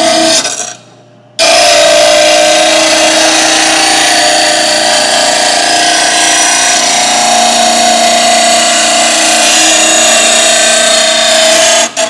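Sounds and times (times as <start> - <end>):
bench grinder grinding steel: 0.0 - 0.7, 1.4 - 12.0.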